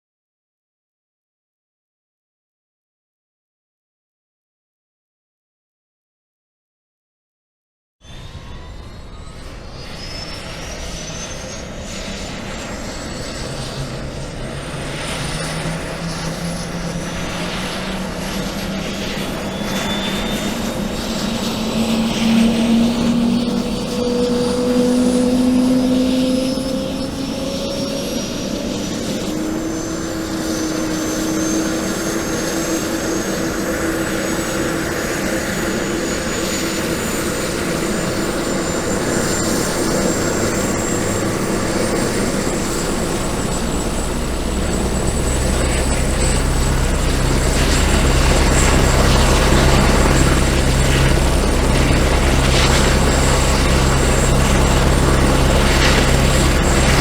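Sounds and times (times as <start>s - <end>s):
helicopter high whine: 8.0s - 57.0s
helicopter engine noise: 8.1s - 57.0s.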